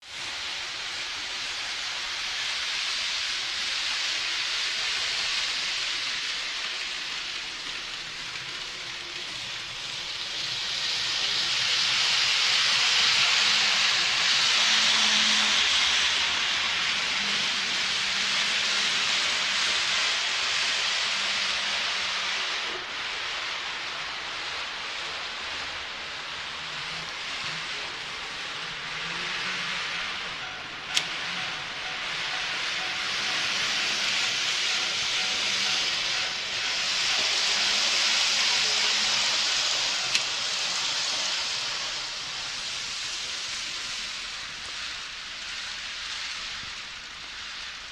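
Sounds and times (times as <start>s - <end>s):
model train whirring on track: 0.0s - 47.9s.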